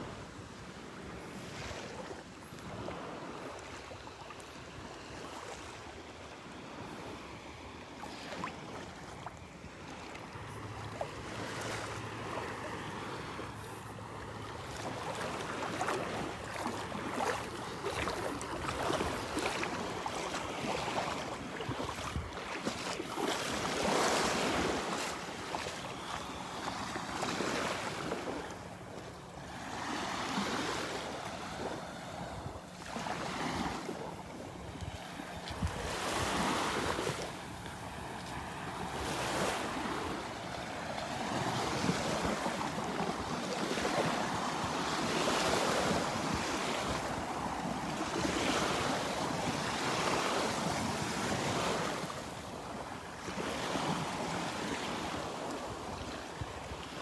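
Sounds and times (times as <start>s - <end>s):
gentle waves lapping on sand: 0.0s - 57.0s.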